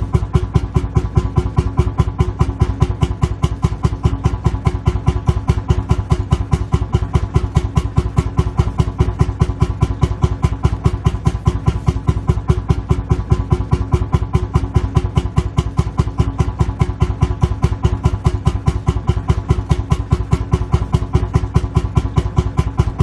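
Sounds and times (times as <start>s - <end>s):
tractor engine idling thumping: 0.0s - 23.0s.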